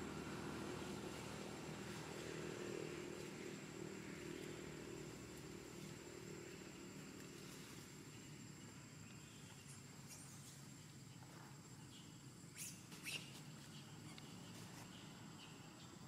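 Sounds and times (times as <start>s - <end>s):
distant engine humming: 0.0s - 16.0s.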